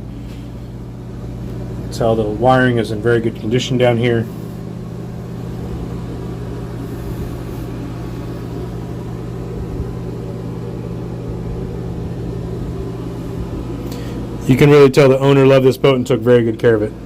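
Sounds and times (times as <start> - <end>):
engine room machinery hum: 0.0 - 17.0.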